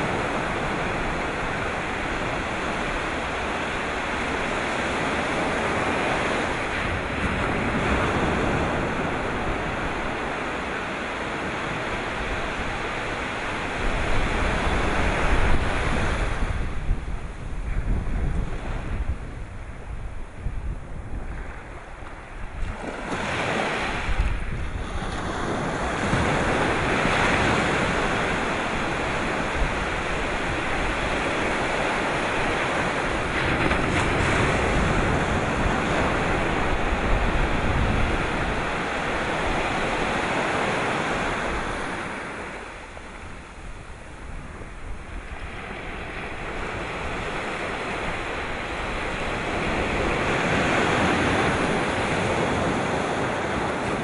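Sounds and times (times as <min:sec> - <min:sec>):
sea waves breaking ashore: 0:00.0 - 0:54.0.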